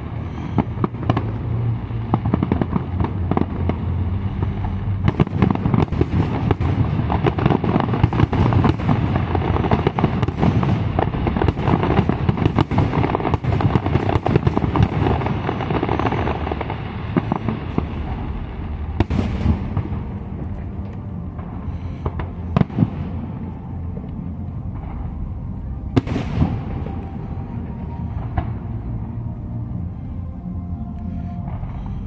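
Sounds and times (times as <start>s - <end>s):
firework bangs and crackling: 0.0s - 30.2s.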